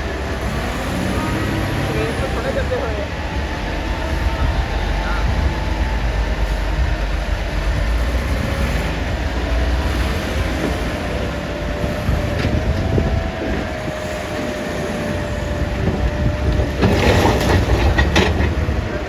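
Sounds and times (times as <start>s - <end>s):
diesel engine running hard: 0.0s - 19.0s
steady engine whine: 0.0s - 19.0s.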